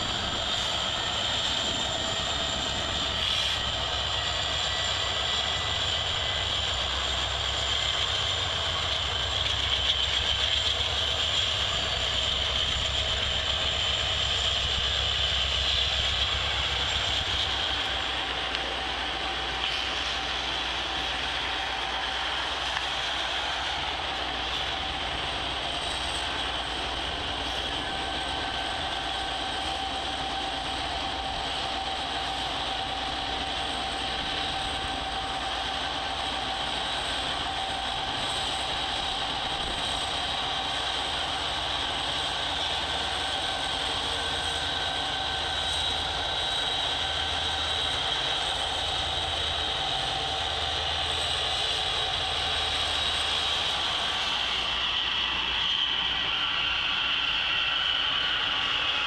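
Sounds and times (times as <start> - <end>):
constant high whine: 0.0 - 59.0
freight train rumbling: 0.0 - 59.0.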